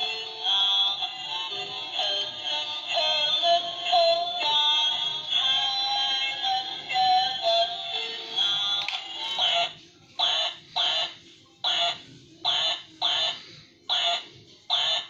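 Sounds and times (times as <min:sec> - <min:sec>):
electronic toy tune: 0:00.0 - 0:15.0.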